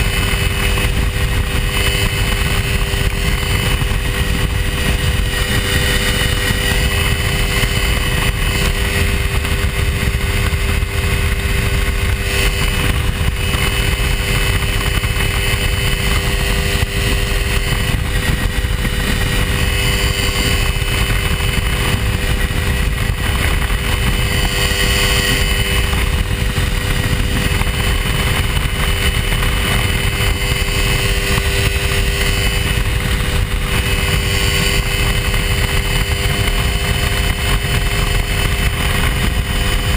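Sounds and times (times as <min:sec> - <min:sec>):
ultralight aircraft engine drone: 0:00.0 - 0:39.9.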